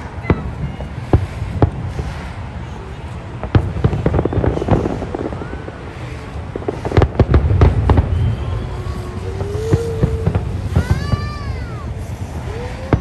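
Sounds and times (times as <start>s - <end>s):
fireworks bangs and crackles: 0.0s - 13.0s
low rolling rumble: 0.0s - 13.0s.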